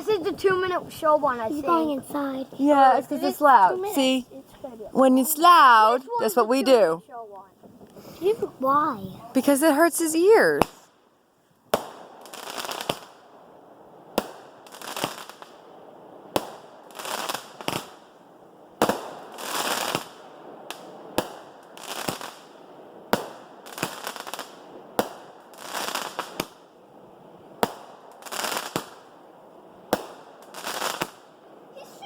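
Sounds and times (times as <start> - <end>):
fireworks bangs and crackling: 0.0 - 10.9, 11.7 - 26.8, 27.4 - 32.0.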